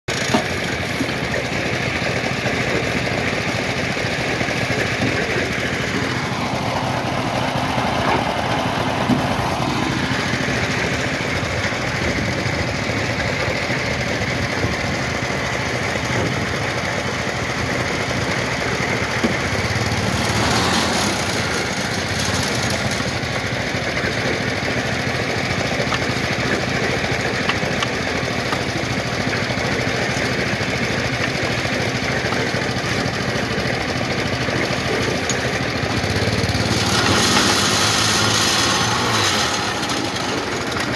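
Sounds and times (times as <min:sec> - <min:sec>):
small engine running: 0:00.1 - 0:40.9.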